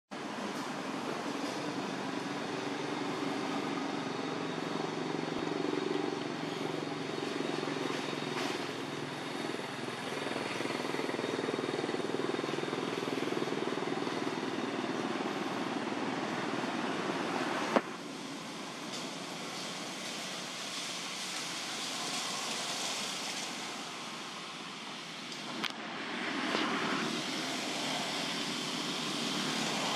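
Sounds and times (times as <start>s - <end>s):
low engine drone: 0.2s - 29.9s
outdoor background hiss: 0.2s - 29.9s.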